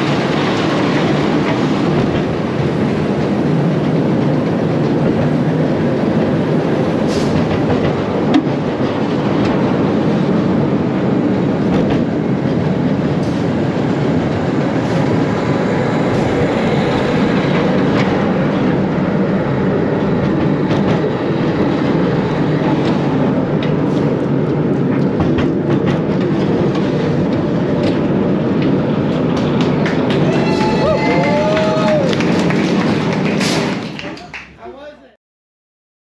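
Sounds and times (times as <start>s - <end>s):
roller coaster track clicks: 0.0s - 34.6s
roller coaster wheels rumbling: 0.0s - 34.6s.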